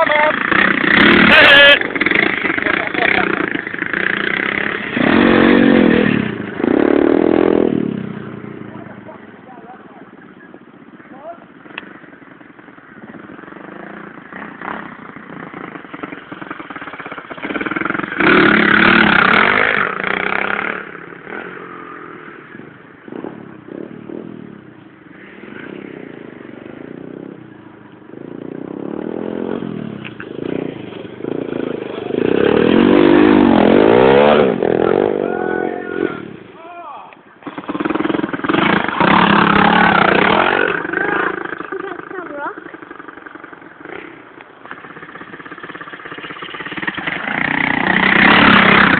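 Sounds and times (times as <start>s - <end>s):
motorbike engines revving: 0.0s - 48.9s.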